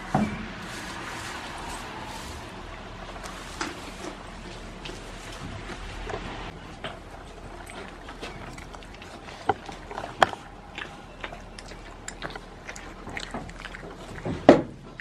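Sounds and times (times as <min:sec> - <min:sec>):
goat chewing food: 0:00.1 - 0:15.0.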